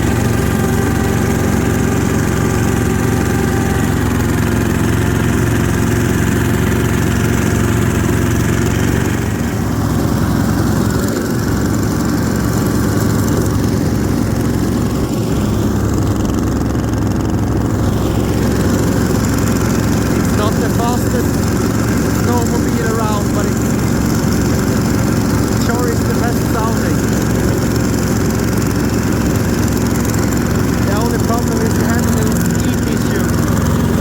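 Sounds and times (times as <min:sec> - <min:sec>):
snowmobile diesel engine running: 0:00.0 - 0:34.0.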